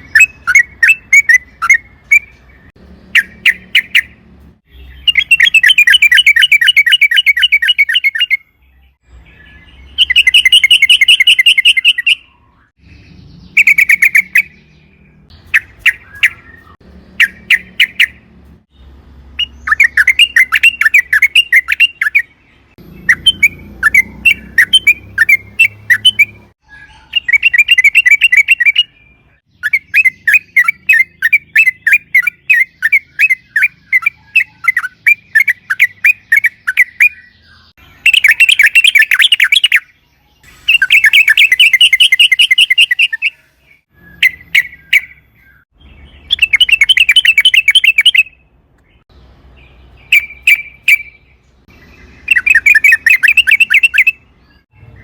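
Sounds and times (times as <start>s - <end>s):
bulbul singing chattering notes: 0.0s - 8.4s, 9.4s - 55.0s.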